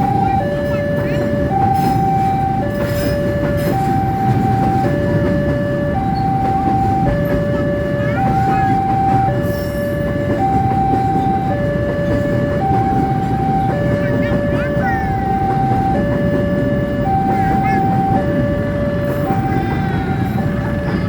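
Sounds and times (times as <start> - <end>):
level-crossing alarm two-tone: 0.0 - 21.0
train rumbling past: 0.0 - 21.0.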